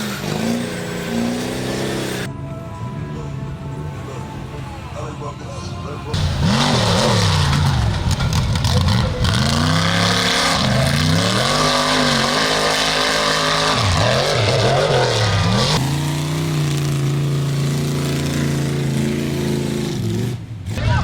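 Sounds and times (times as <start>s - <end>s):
truck engine revving: 0.0s - 2.4s, 4.1s - 21.0s.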